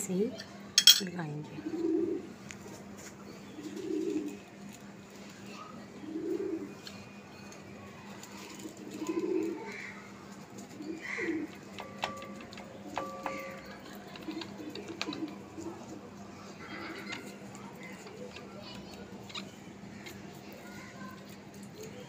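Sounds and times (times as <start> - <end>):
bird cooing: 1.5 - 2.4, 3.3 - 4.5, 5.5 - 22.0.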